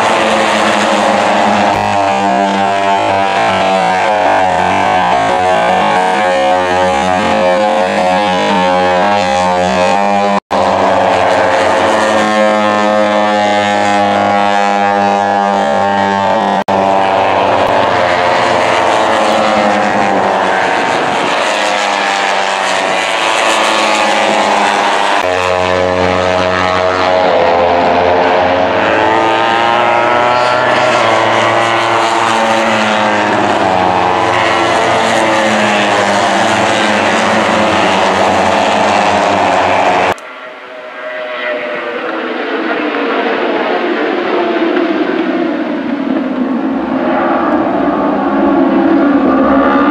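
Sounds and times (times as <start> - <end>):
racing motorcycle engines revving: 0.0 - 49.9.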